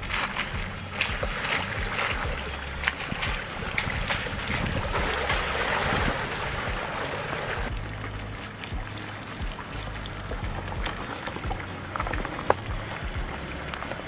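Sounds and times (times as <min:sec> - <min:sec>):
tyres sloshing through mud: 0:00.0 - 0:14.0.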